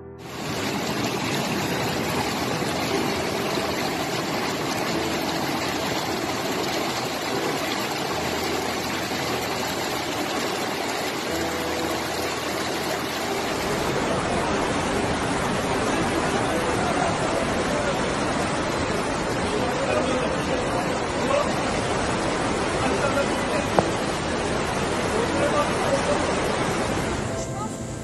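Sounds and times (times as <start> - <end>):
floodwater rushing down street: 0.2 - 27.9.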